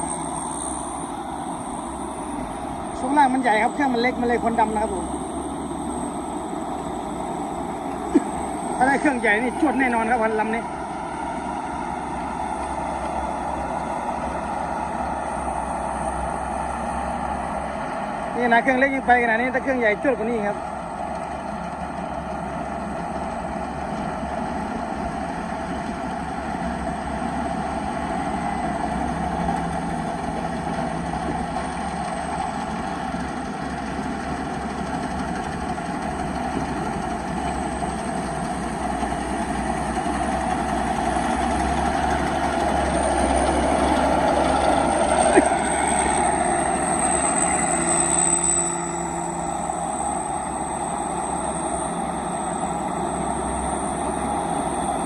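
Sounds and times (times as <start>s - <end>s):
high turbo whistle: 0.0s - 19.8s, 25.2s - 55.0s
diesel engine running: 0.0s - 55.0s.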